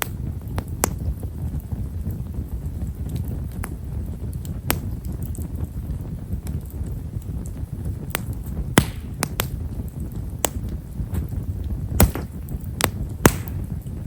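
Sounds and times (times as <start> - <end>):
firewood crackling and popping: 0.0 - 14.0
low fire rumble: 0.0 - 14.0.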